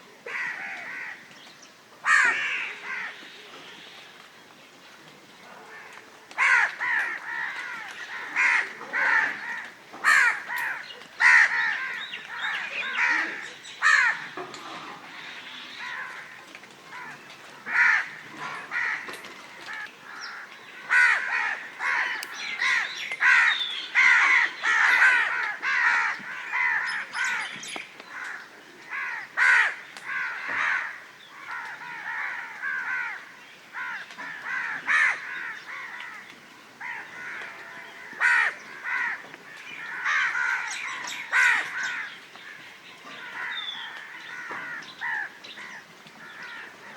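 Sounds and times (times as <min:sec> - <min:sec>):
crows cawing: 0:00.2 - 0:01.3, 0:02.0 - 0:03.3, 0:05.7 - 0:46.9.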